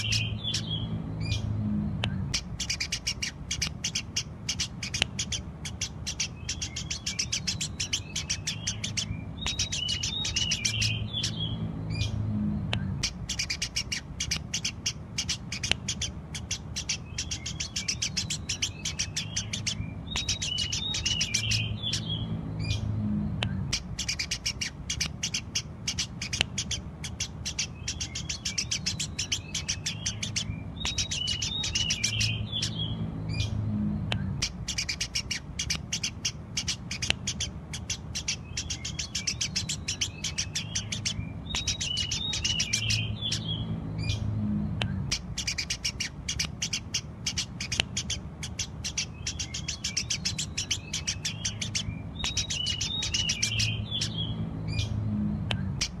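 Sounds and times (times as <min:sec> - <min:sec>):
sparrows chirping: 0:00.0 - 0:56.0
steady low hum: 0:00.0 - 0:56.0.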